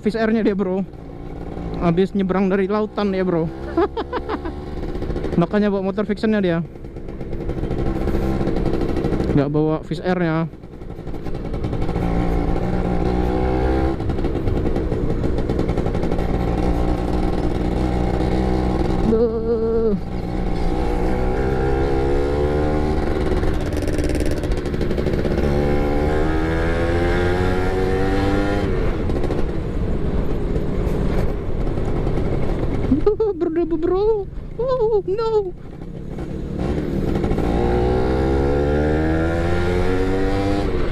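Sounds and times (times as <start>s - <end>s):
two-stroke motorcycle engine revving: 0.0s - 40.9s.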